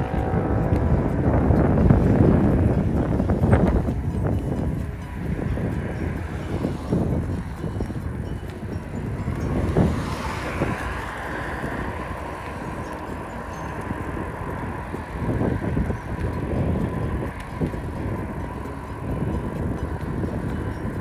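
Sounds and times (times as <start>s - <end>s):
road rumble: 0.0s - 21.0s
wind buffeting microphone: 0.0s - 21.0s.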